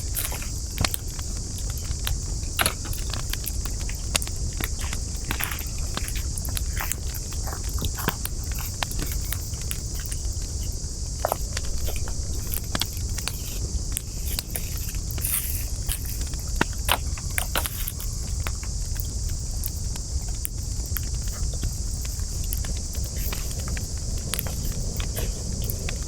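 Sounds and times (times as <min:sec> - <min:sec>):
campfire crackling: 0:00.0 - 0:26.0
high-pitched hiss: 0:00.0 - 0:26.0.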